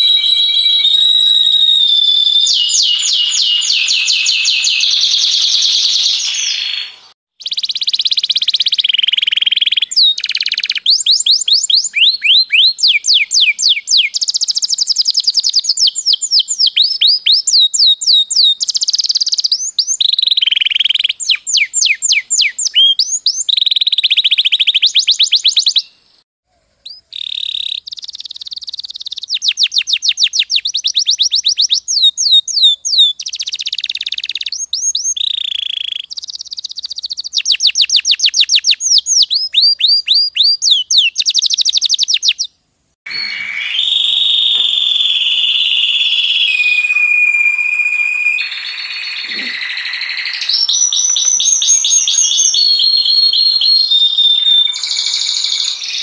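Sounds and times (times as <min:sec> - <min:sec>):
canary singing trills: 0:00.0 - 0:26.0, 0:26.8 - 0:42.5, 0:43.1 - 0:56.0.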